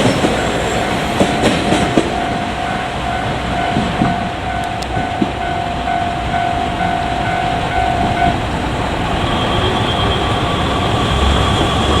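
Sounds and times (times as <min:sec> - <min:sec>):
diesel train passing: 0:00.0 - 0:12.0
level-crossing warning bell: 0:00.0 - 0:12.0.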